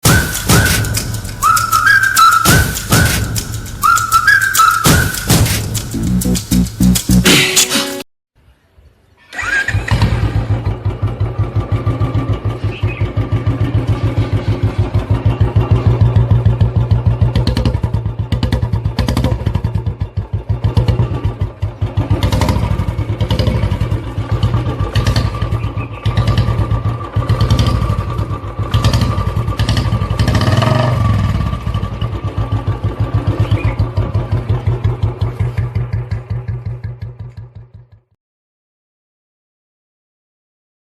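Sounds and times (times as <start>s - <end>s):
motorcycle engine revving: 0.0s - 7.4s, 9.4s - 37.9s.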